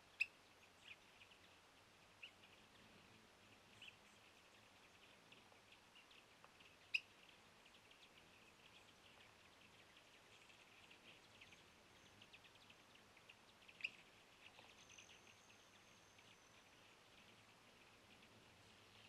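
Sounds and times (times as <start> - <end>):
high chirps and ticks: 3.4 - 19.0.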